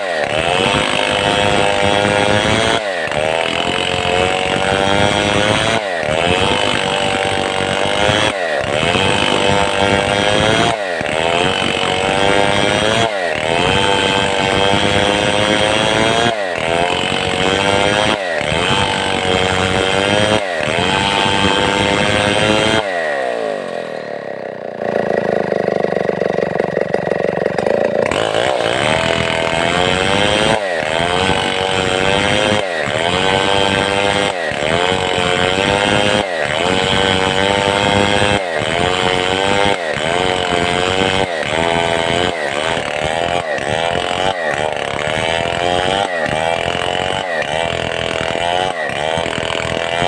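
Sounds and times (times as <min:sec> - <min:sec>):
chainsaw running under load: 0:00.0 - 0:50.0.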